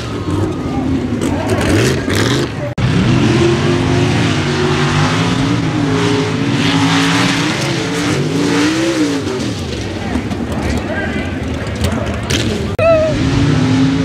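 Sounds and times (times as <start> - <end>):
truck engine at full throttle: 0.0 - 14.0.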